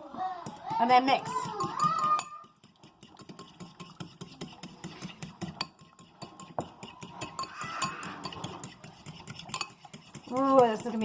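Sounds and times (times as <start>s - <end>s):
utensil stirring in a bowl: 0.0s - 11.0s.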